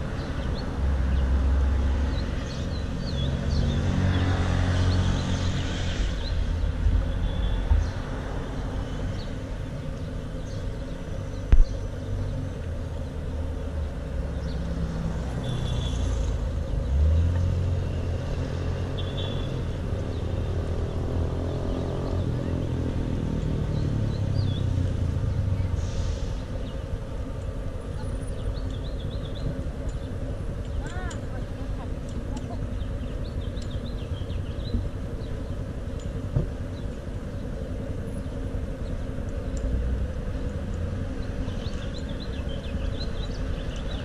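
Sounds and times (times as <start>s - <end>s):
low rumble of traffic: 0.0s - 44.0s.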